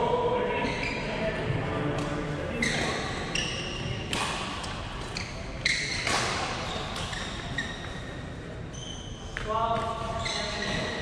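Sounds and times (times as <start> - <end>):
shoes squeaking on court floor: 0.6 - 1.6, 2.5 - 11.0.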